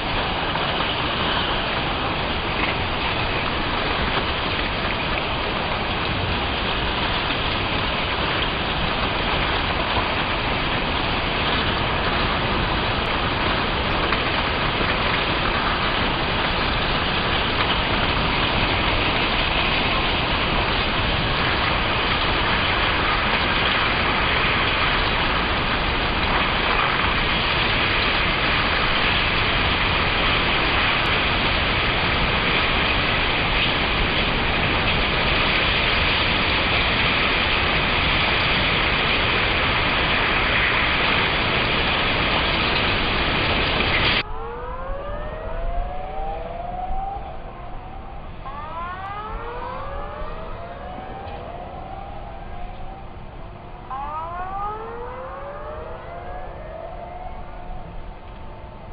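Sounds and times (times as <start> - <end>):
floodwater rushing: 0.0 - 58.3.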